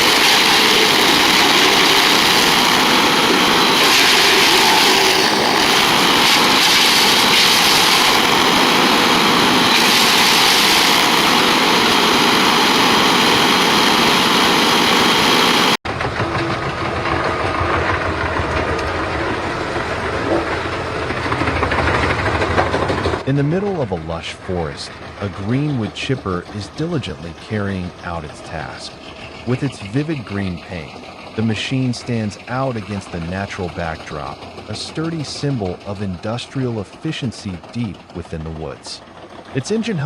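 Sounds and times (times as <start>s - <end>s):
deeper wood chipper engine running: 0.0s - 40.0s
wood chipper chipping: 0.0s - 40.0s.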